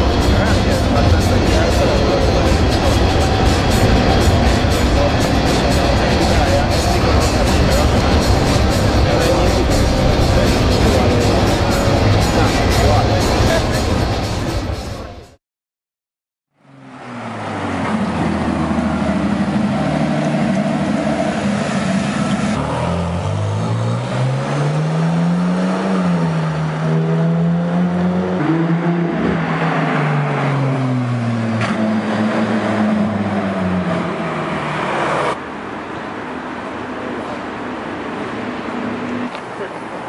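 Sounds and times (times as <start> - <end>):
car engine revving: 0.0 - 15.1, 16.6 - 35.5.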